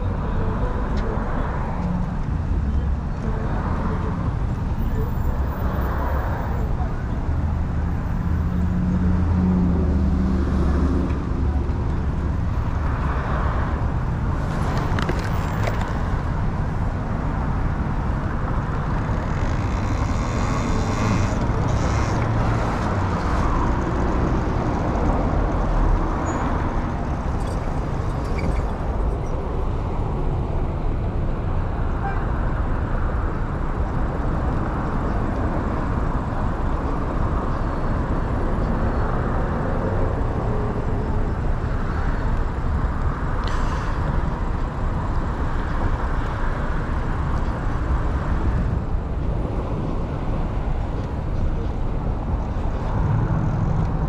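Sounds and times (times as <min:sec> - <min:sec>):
passing cars: 0:00.0 - 0:54.0
road noise rushing: 0:00.0 - 0:54.0.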